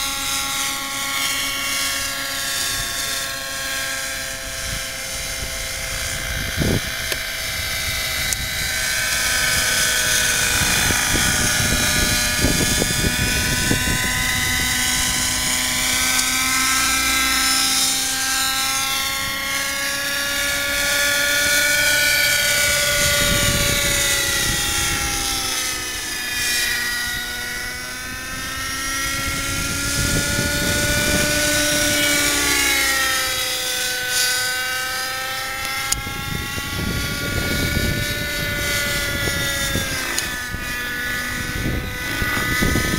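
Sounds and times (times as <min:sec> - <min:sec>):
model helicopter engine whining: 0:00.0 - 0:42.9.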